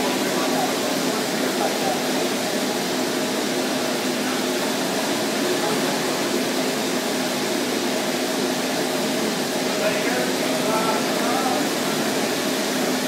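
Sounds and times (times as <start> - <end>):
people talking: 0.0 - 6.6, 8.9 - 13.0.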